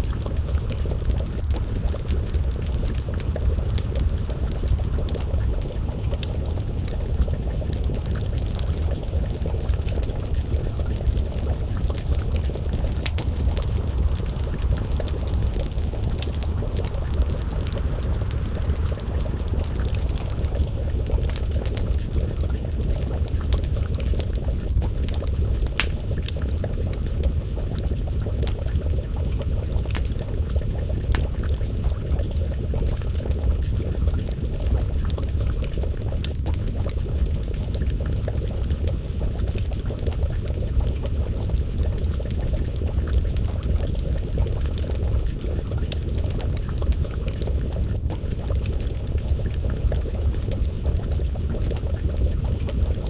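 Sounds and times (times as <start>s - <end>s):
low rumble: 0.0s - 53.0s
stew simmering and bubbling: 0.0s - 53.0s
wood fire crackling and popping: 0.0s - 53.0s.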